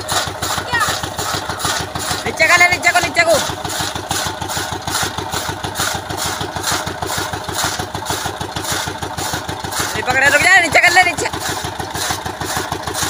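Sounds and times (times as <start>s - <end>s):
small engine thudding: 0.0s - 13.0s.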